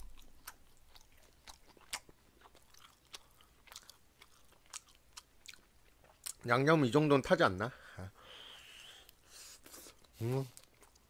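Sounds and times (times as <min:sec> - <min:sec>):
faint chewing: 0:00.0 - 0:06.4, 0:08.6 - 0:11.0.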